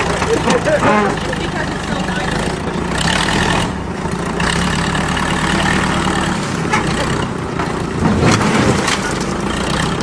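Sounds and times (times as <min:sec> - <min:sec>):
bulldozer diesel engine idling: 0:00.0 - 0:08.1.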